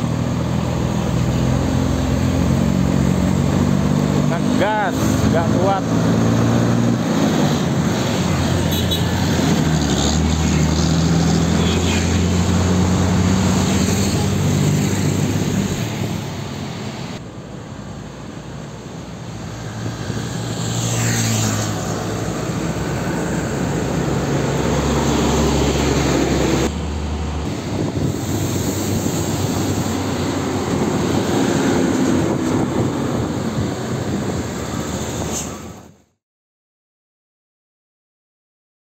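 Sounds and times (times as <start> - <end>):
heavy diesel trucks driving past: 0.0 - 36.0
tyre and traffic noise: 0.0 - 36.1.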